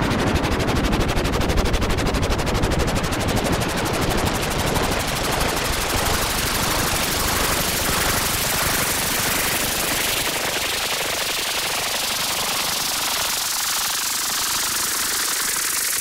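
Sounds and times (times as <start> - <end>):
rapid pulsing rattle: 0.0 - 16.0.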